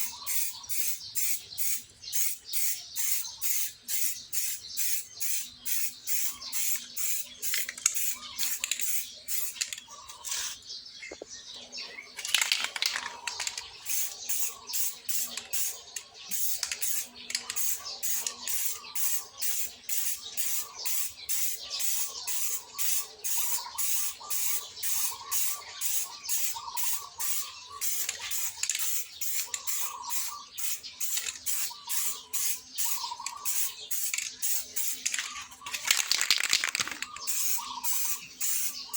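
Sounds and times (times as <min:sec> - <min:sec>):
spray paint can spraying: 0:00.0 - 0:10.6, 0:12.3 - 0:38.9.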